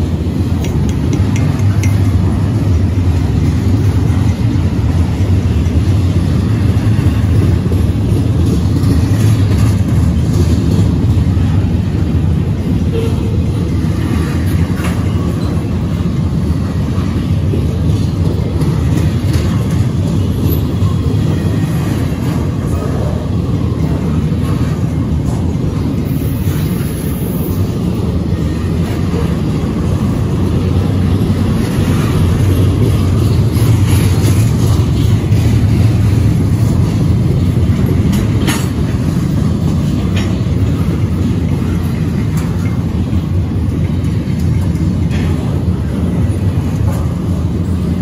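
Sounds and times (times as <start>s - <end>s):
light clicks from train cars: 0.0s - 48.0s
train wheels rumbling on rail: 0.0s - 48.0s.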